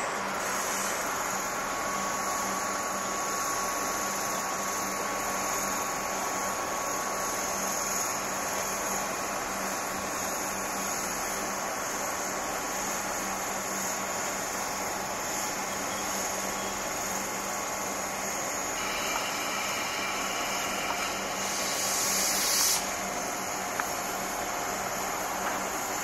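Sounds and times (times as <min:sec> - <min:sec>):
faint steady whine: 0:00.0 - 0:26.0
train equipment hiss and hum: 0:00.0 - 0:26.0.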